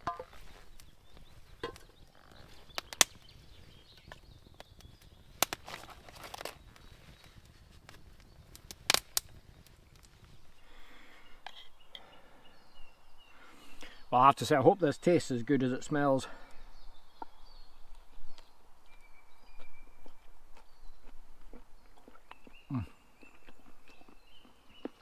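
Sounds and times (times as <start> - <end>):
faint outdoor background: 0.0 - 25.0.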